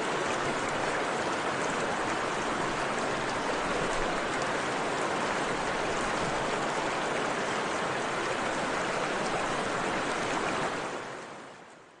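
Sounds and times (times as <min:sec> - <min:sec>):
rushing water noise: 0:00.0 - 0:12.0.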